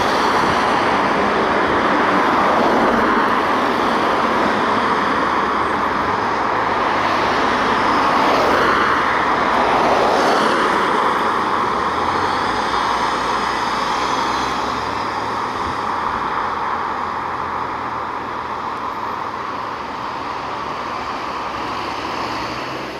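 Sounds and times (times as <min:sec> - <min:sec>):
road traffic noise: 0:00.0 - 0:22.9.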